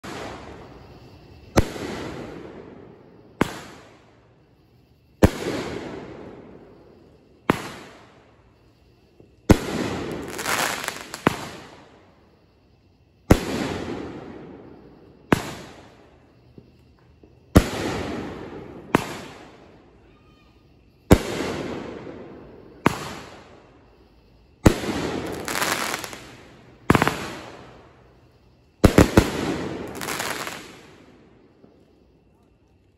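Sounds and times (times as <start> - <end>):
fireworks bursting with echo: 0.0 - 4.2, 5.1 - 12.2, 13.2 - 19.9, 20.9 - 23.8, 24.5 - 32.0.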